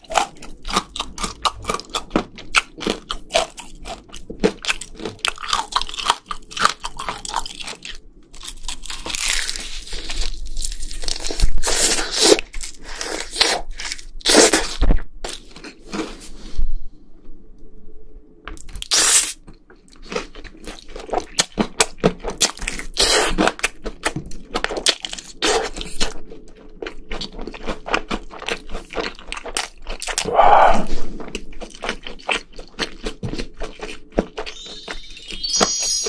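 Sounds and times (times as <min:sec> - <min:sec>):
chewing crispy food: 0:00.0 - 0:16.2, 0:18.6 - 0:35.0.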